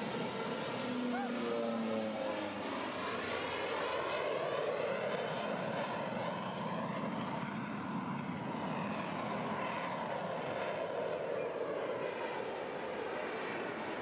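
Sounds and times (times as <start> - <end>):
airplane engine drone: 0.0 - 14.0.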